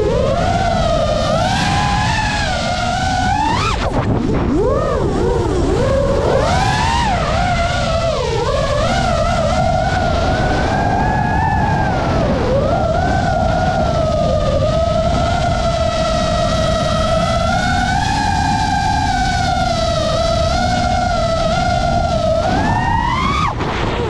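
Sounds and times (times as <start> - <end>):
drone motors whining: 0.0 - 24.0
wind rushing: 0.0 - 24.0.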